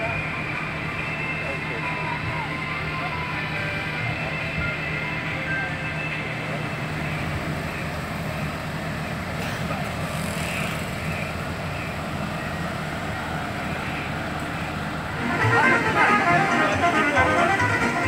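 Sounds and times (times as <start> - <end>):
background crowd bustle: 0.0 - 18.0.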